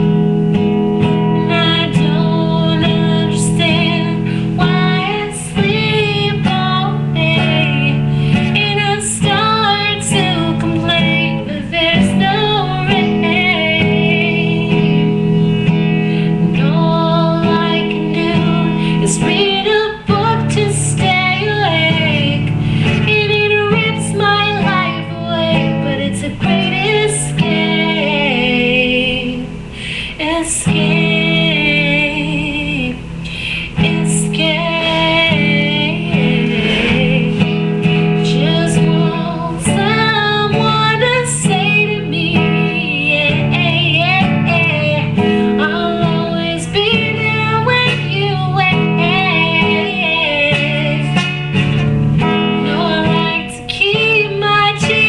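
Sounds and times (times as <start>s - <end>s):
guitar strumming: 0.0s - 55.0s
woman singing: 0.0s - 55.0s.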